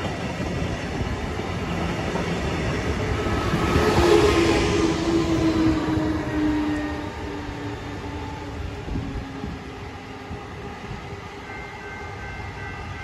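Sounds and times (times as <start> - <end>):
diesel locomotive hum: 0.0 - 13.0
train wheel rumble: 0.0 - 13.0.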